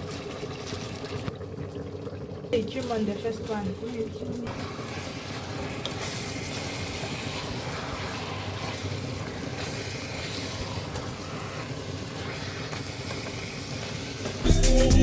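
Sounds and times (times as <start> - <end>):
livers sizzling in a pan: 0.0 - 15.0.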